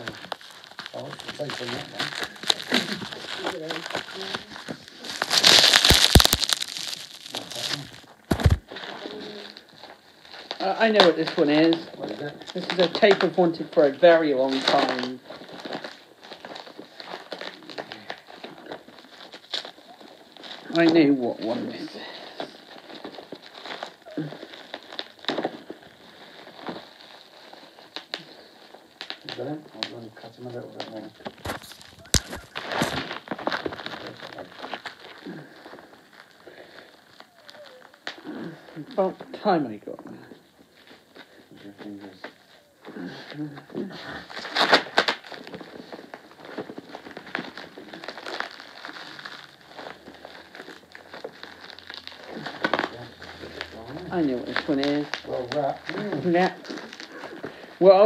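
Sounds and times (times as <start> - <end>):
packaging rustling and crinkling: 0.0 - 58.0.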